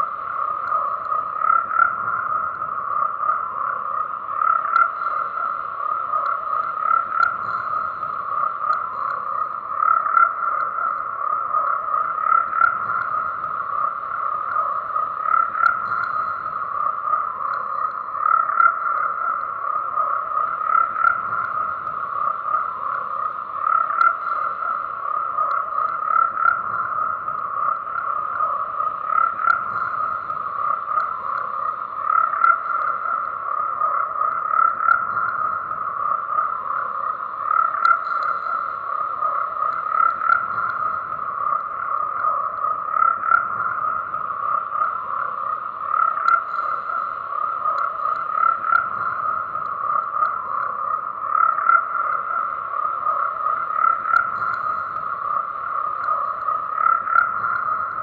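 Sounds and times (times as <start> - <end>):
frogs croaking in chorus: 0.0 - 58.0.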